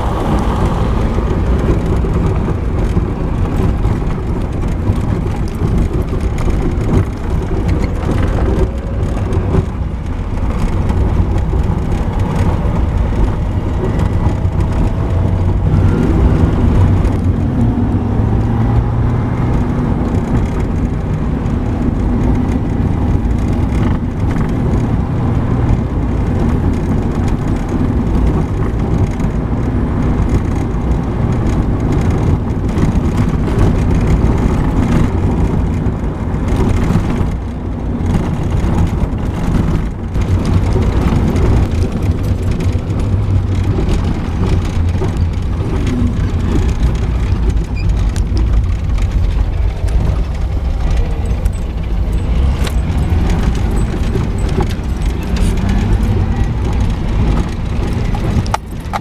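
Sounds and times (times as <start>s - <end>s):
car body rattling and knocking: 0.0s - 59.0s
car engine drone: 0.0s - 59.0s.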